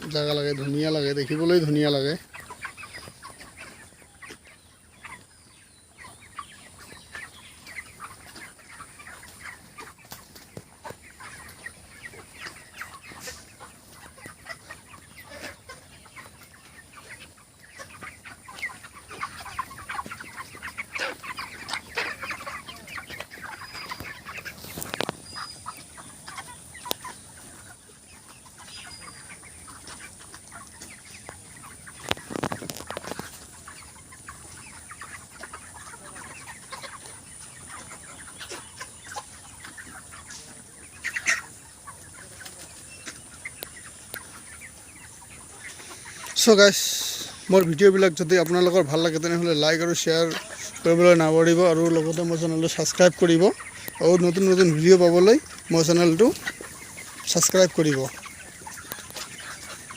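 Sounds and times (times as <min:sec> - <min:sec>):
chickens clucking and chirping: 0:00.0 - 0:59.9.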